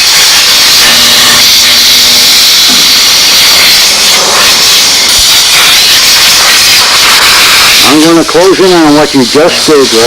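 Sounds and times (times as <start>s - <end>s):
steam cleaner hissing: 0.0s - 10.0s.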